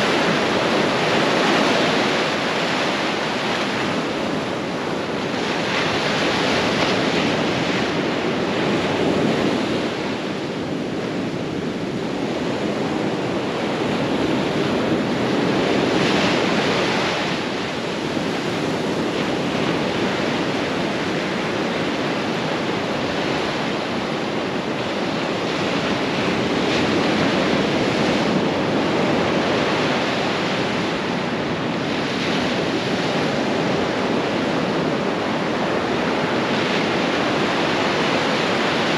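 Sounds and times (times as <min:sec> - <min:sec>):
ocean surf washing up sand: 0:00.0 - 0:38.9.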